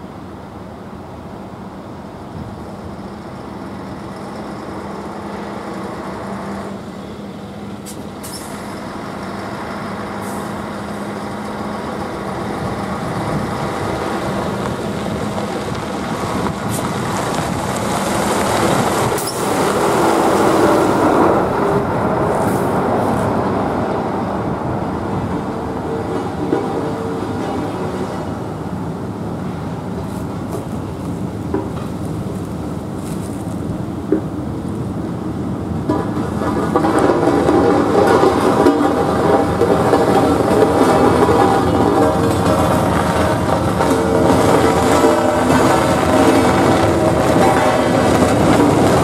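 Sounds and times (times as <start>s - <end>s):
truck diesel engine: 0.0s - 49.0s.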